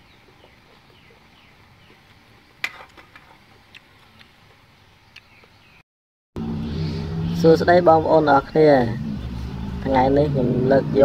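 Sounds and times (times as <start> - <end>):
small birds chirping: 0.0 - 2.6, 3.6 - 5.8, 6.6 - 11.0.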